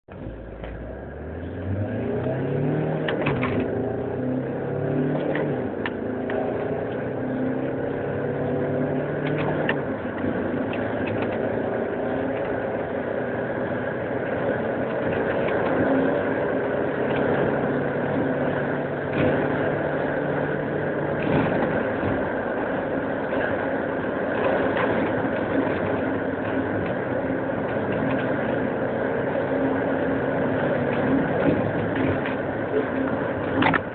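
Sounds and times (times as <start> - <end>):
car engine accelerating: 0.1 - 33.9
road and wind noise: 0.1 - 33.9.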